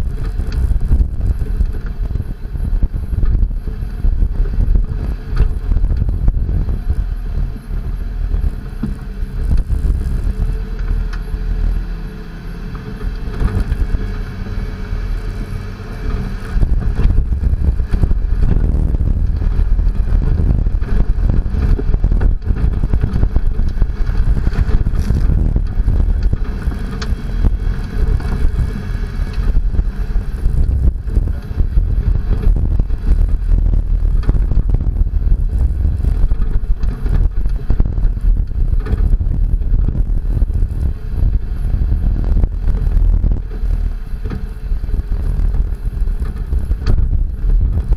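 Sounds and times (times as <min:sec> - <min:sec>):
truck engine under load: 0:00.0 - 0:47.9
tyres rumbling on gravel: 0:00.0 - 0:47.9.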